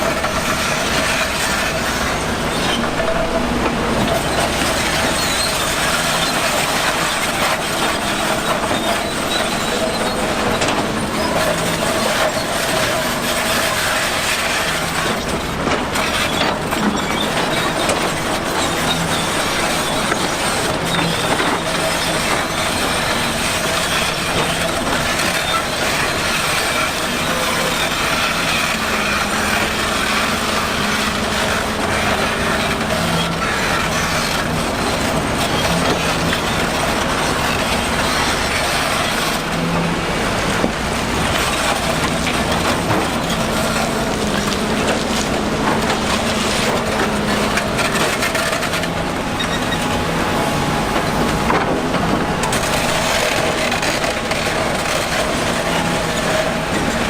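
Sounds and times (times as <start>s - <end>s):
diesel engine running: 0.0s - 57.0s
machinery rattling and clattering: 0.0s - 57.0s.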